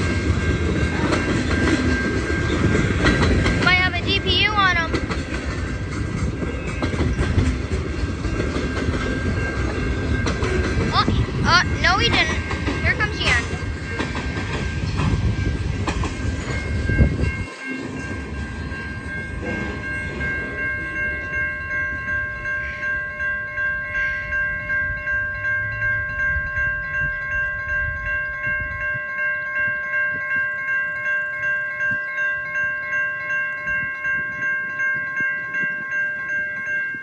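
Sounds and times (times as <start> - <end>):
freight train clattering over crossing: 0.0 - 32.2
crossing warning bell ringing: 0.0 - 37.0.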